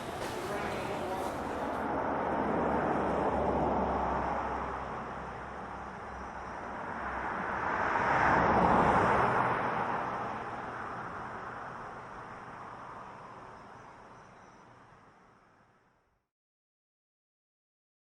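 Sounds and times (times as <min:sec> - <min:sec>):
vehicles passing by: 0:00.0 - 0:15.7.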